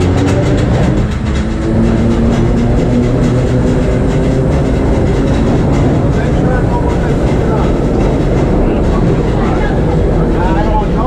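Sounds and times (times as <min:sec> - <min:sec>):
low motor hum: 0:00.0 - 0:11.0
train wheels on rails: 0:00.0 - 0:11.0.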